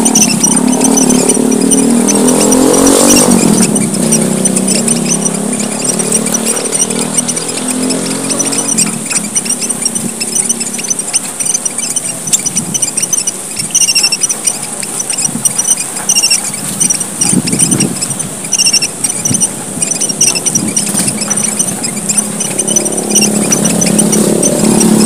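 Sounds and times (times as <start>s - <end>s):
finches chirping: 0.0s - 25.0s.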